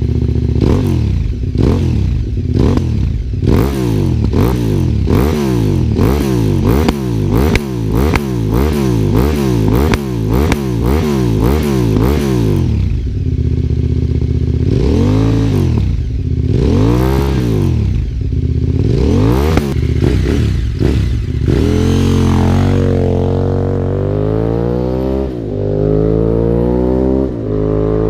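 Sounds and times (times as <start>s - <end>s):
motorcycle accelerating away: 0.0s - 13.3s, 14.2s - 28.0s
motorcycle engine revving: 0.0s - 28.0s.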